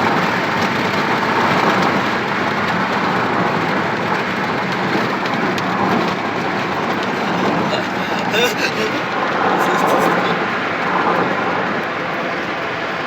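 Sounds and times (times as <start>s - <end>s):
vehicle road and engine noise: 0.0s - 13.0s.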